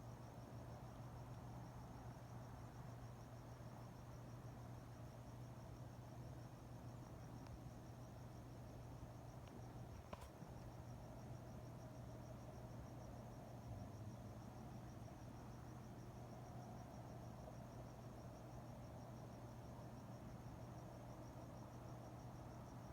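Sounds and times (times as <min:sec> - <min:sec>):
crickets chirping: 0:00.0 - 0:22.9.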